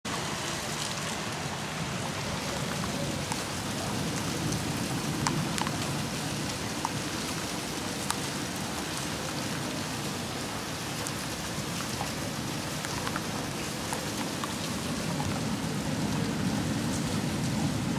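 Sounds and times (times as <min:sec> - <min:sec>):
heavy rain splashing: 0:00.1 - 0:17.9.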